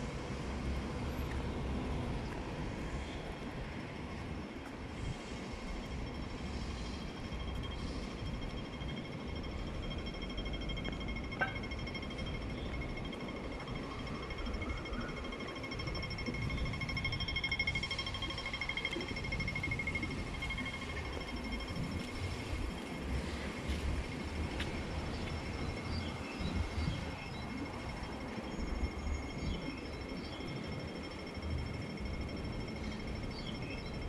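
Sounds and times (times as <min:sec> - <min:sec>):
street traffic hum: 0:00.0 - 0:34.0
crossing signal beeping rapidly: 0:05.5 - 0:34.0.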